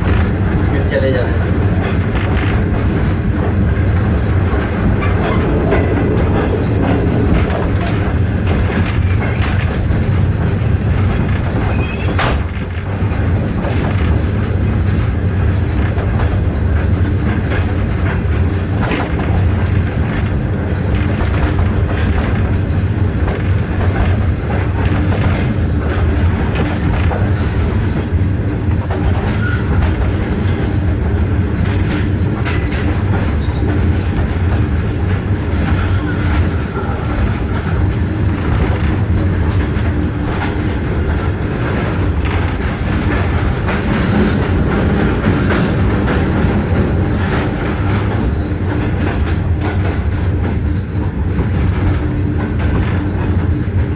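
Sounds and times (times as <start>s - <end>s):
train low rumble: 0.0s - 53.9s
wheels clicking over rail joints: 0.0s - 53.9s.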